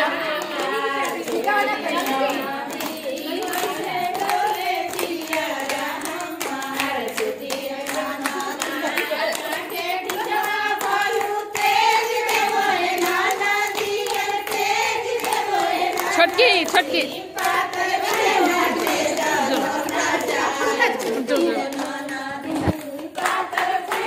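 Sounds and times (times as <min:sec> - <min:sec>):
hand clapping: 0:00.0 - 0:24.0
women singing together: 0:00.0 - 0:24.0.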